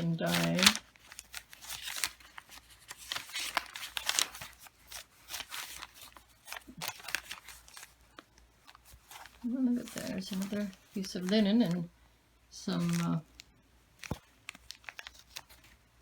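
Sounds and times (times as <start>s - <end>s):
paper rustling and crinkling: 0.0s - 11.8s, 12.6s - 16.0s.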